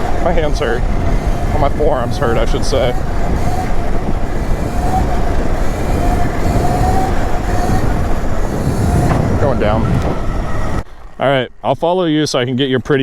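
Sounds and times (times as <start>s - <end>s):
electric motor whine: 0.0s - 11.2s
wind and tyre rumble: 0.0s - 13.0s.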